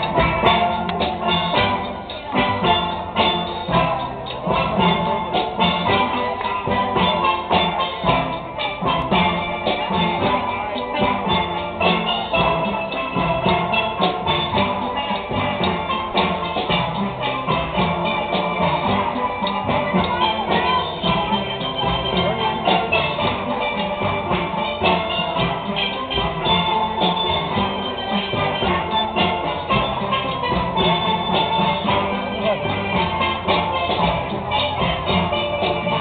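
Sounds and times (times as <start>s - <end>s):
drum beat: 0.0s - 36.0s
steelpans playing: 0.0s - 36.0s.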